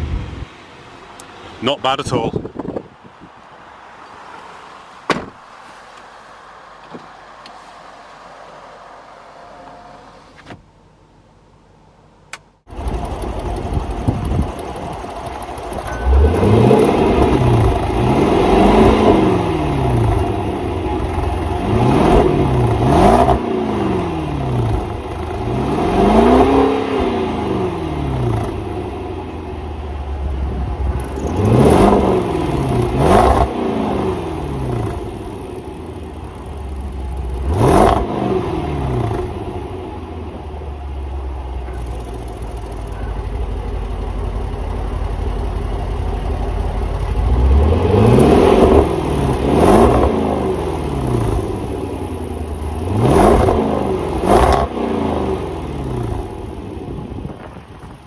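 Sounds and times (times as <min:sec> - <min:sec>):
car engine idling and revving: 0:02.6 - 0:58.0.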